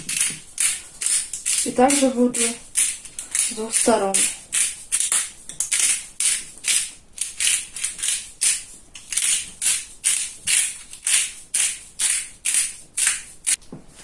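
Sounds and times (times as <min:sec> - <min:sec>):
spice grinder grating crunch: 0:00.0 - 0:13.6.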